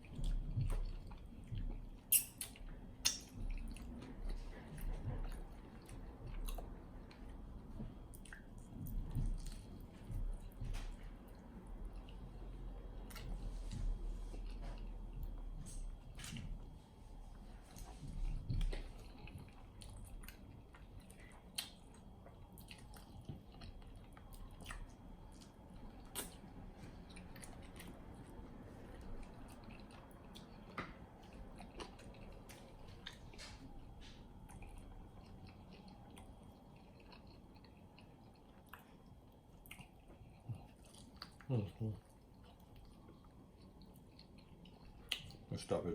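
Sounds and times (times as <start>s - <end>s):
person chewing food: 0.0s - 45.5s.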